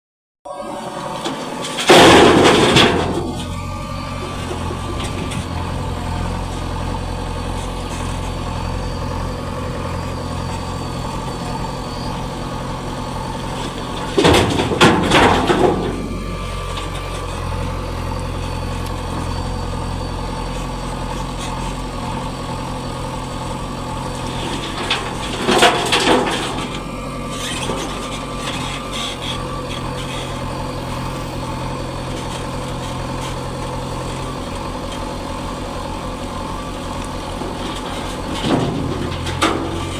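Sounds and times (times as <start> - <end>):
diesel engine of heavy machinery: 0.5 - 39.9.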